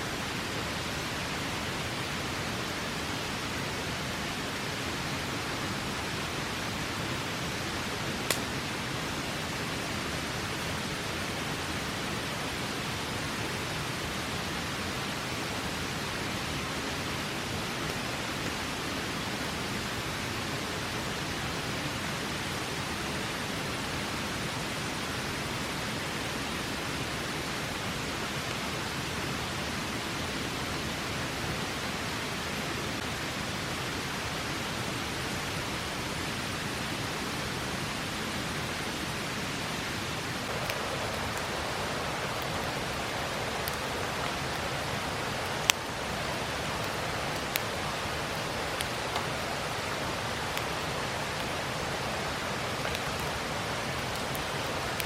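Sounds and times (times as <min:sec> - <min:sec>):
river water rushing: 0:00.0 - 0:55.0
campfire crackle: 0:00.1 - 0:55.0.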